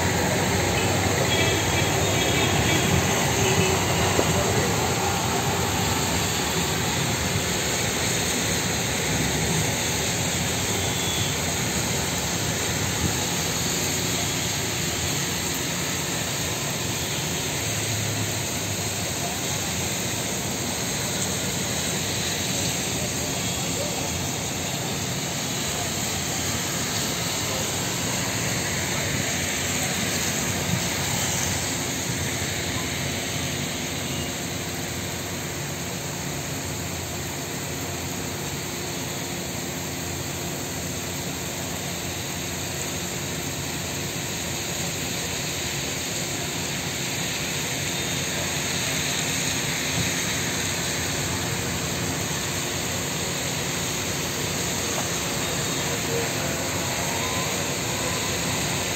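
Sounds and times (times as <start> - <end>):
heavy rain pouring: 0.0 - 58.9
tyres swishing on wet road: 0.0 - 58.9.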